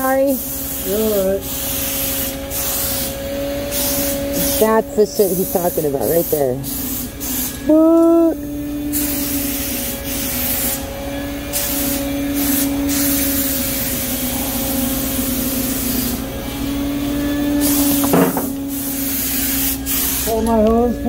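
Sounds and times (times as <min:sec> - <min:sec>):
paint spray gun hissing: 0:00.0 - 0:07.7, 0:08.9 - 0:10.9, 0:11.5 - 0:16.4, 0:17.5 - 0:20.7.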